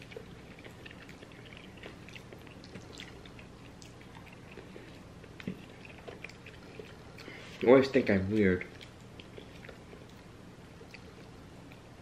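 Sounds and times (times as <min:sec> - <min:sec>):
chewing pasta: 0:00.0 - 0:12.0.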